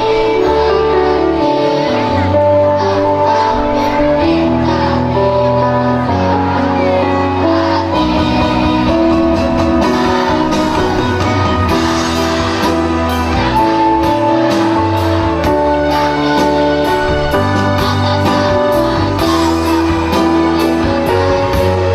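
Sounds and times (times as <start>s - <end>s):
held chords accompaniment: 0.0s - 21.9s.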